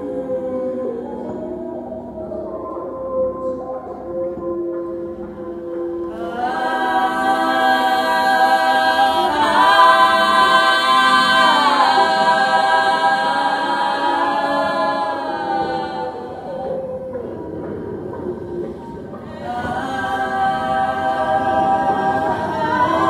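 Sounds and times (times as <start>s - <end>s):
women singing a cappella: 0.0s - 23.0s.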